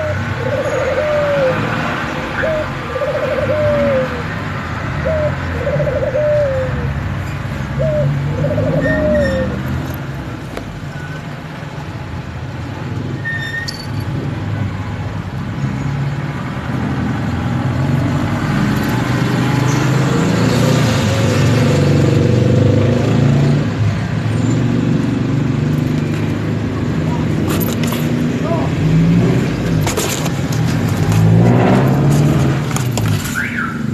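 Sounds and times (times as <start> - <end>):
vehicle engine and traffic rumble: 0.0 - 33.9.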